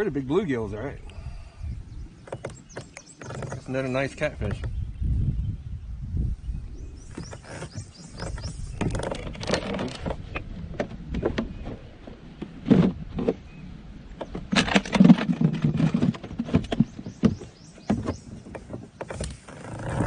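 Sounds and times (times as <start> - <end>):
knocks and scraping in plastic kayak: 1.9 - 5.4, 6.8 - 20.0.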